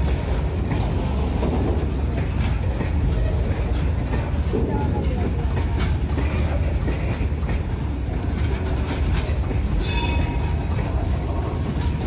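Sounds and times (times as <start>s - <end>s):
train wheels rumbling on rails: 0.0s - 12.0s
wheels clacking over rail joints: 0.0s - 12.0s.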